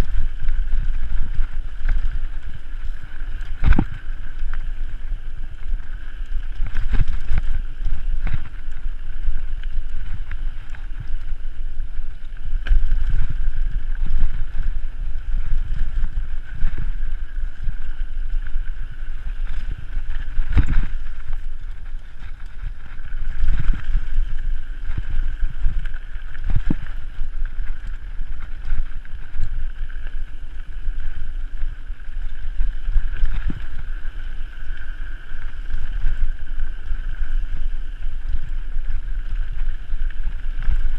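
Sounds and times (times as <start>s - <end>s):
bike knocking and rattling: 0.0s - 40.9s
wind buffeting microphone: 0.0s - 40.9s.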